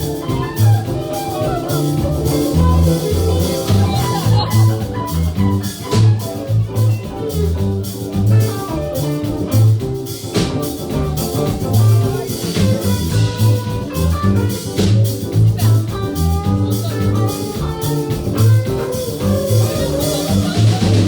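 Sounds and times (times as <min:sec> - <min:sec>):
band playing instrumental: 0:00.0 - 0:21.0
drums: 0:00.0 - 0:21.0
low bass line: 0:00.0 - 0:21.0.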